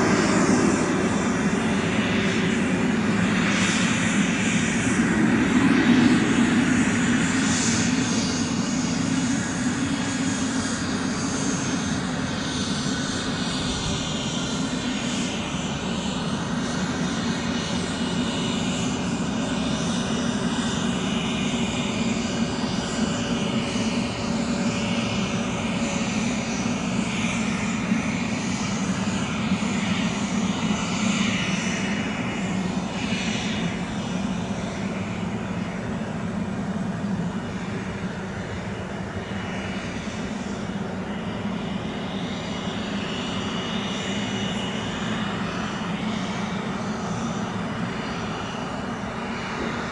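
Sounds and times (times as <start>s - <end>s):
faint engine whine: 0.0s - 49.9s
jet engine drone: 0.0s - 49.9s.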